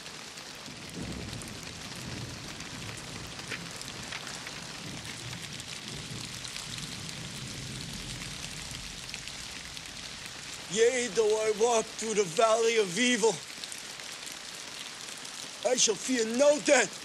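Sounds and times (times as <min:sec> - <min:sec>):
heavy rain pattering: 0:00.0 - 0:17.0.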